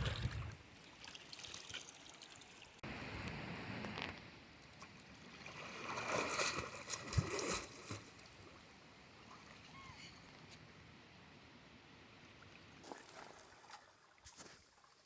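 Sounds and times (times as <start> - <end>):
water splashing and sloshing: 0.0 - 2.8, 3.9 - 10.8, 12.2 - 15.0
faint flow of water: 0.0 - 15.0.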